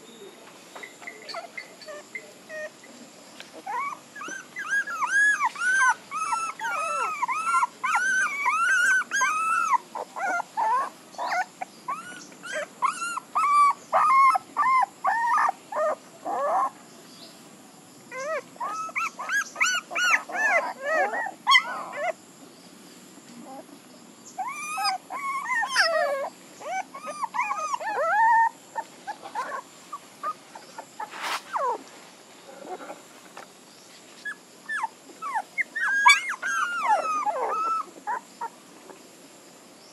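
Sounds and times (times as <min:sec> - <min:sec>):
puppies whimpering: 0:00.8 - 0:16.8, 0:18.1 - 0:22.2, 0:23.4 - 0:31.8, 0:34.2 - 0:38.6.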